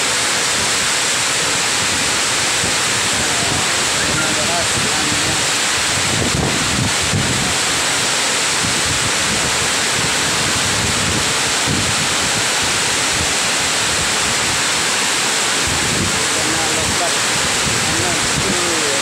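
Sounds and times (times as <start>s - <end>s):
heavy rain pouring: 0.0s - 19.0s
wind buffeting microphone: 1.7s - 7.8s, 8.5s - 14.9s, 15.6s - 19.0s.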